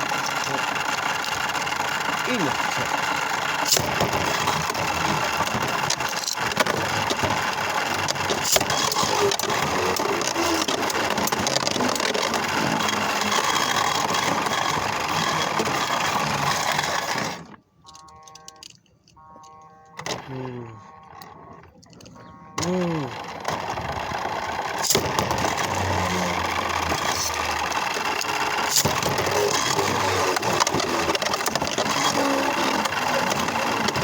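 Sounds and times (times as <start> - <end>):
plastic spinning tops rattling: 0.0 - 17.4, 23.2 - 34.0
small electric toy motor: 0.0 - 17.6, 22.6 - 34.0.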